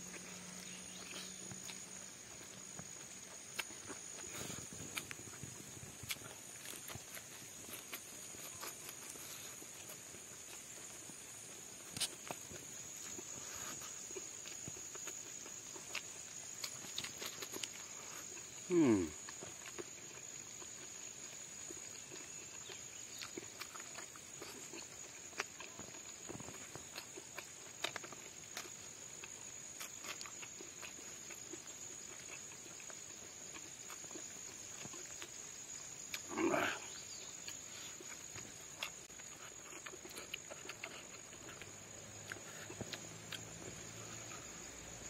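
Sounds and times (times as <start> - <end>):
chewing and lip-smacking: 0.0 - 44.9.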